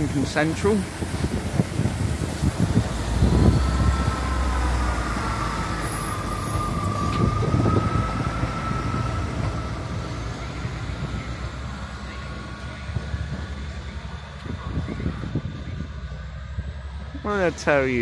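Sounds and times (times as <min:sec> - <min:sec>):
diesel train engine rumbling: 0:00.0 - 0:18.0.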